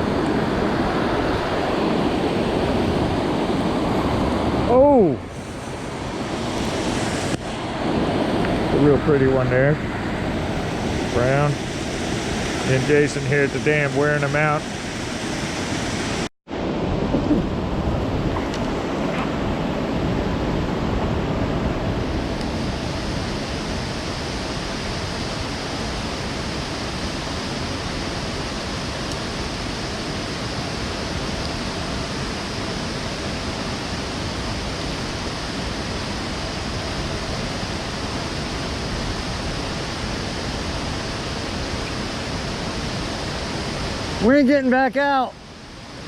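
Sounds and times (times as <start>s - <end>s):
water rushing: 0.0s - 46.0s.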